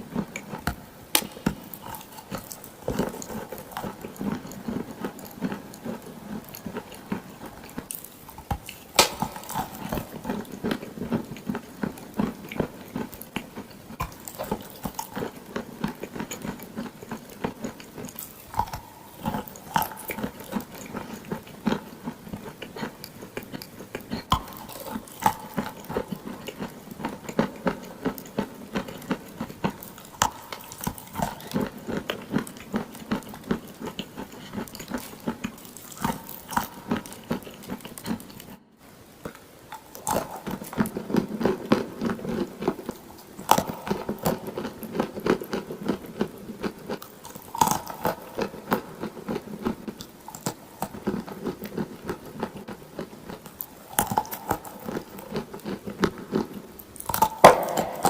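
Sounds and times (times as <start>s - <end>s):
biting and chewing clay: 0.0s - 58.0s.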